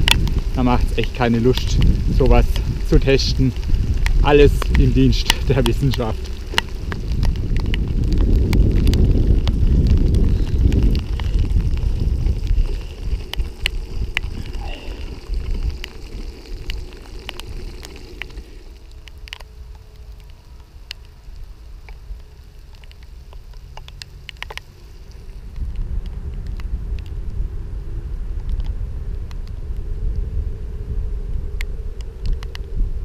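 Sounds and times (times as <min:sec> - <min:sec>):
raindrops ticking on camera: 0:00.0 - 0:27.4, 0:28.4 - 0:30.3, 0:31.5 - 0:32.8
rain hiss: 0:00.0 - 0:33.0
wind buffeting microphone: 0:00.0 - 0:33.0.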